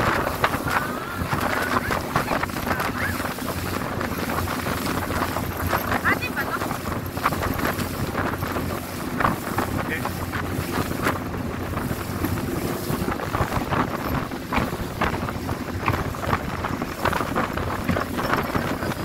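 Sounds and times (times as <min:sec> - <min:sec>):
boat motor running: 0:00.0 - 0:19.0
hull slapping through waves: 0:00.0 - 0:19.0
wind buffeting microphone: 0:00.0 - 0:19.0.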